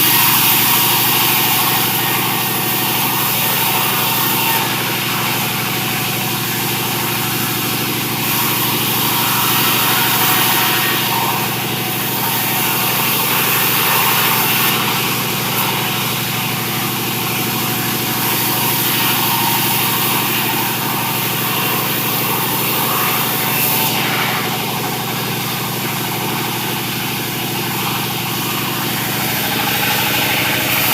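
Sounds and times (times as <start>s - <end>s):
sawmill machinery droning: 0.0s - 30.9s.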